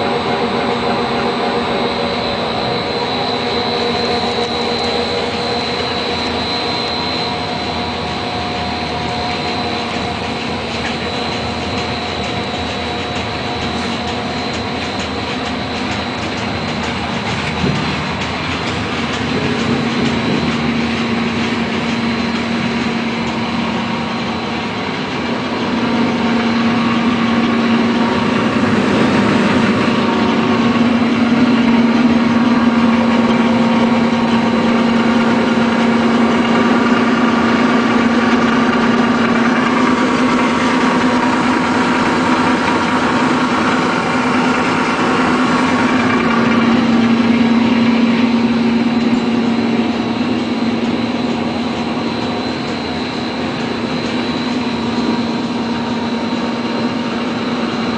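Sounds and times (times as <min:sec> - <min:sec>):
machinery humming: 0:00.0 - 0:57.9.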